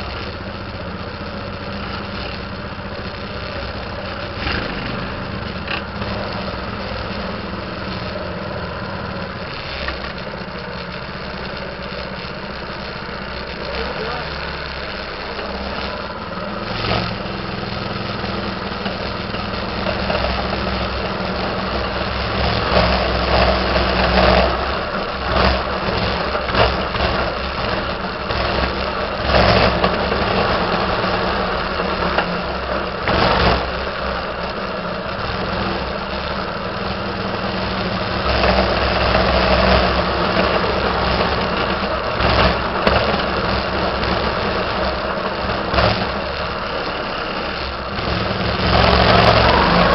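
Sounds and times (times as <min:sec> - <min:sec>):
small engine revving: 0:00.0 - 0:49.9.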